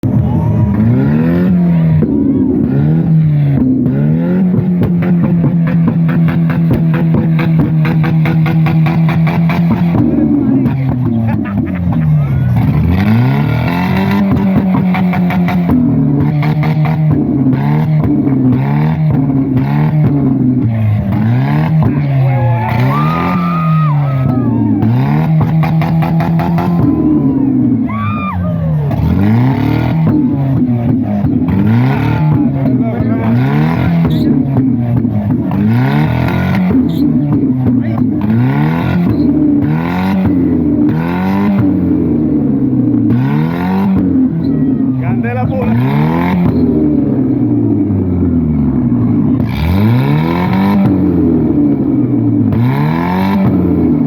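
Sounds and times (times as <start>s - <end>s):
vehicle engine revving: 0.0s - 54.0s.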